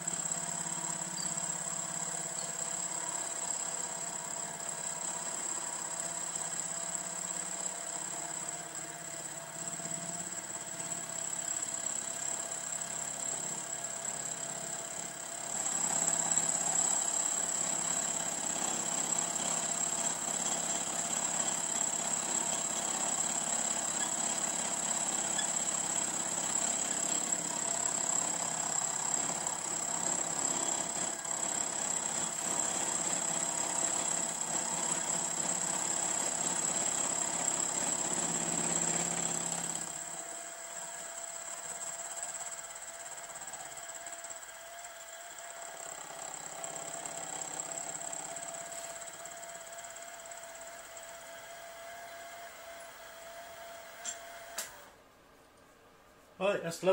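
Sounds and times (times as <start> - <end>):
end mill cutting metal: 0.0 - 54.8
milling machine whine: 0.0 - 54.9.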